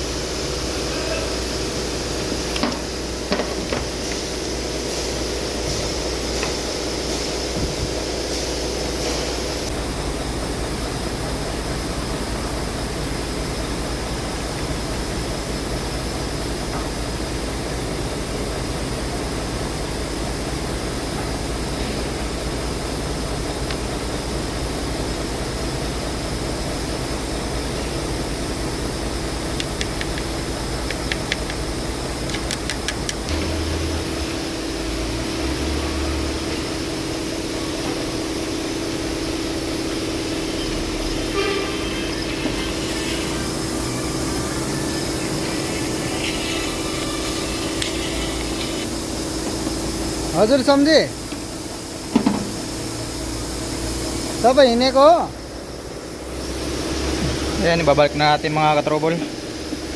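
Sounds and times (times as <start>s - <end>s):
engine drone: 0.0s - 59.9s.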